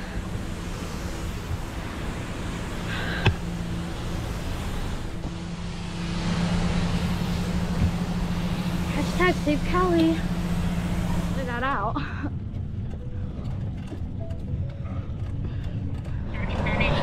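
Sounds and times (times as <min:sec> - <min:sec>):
wind and road rumble: 0:00.0 - 0:17.0.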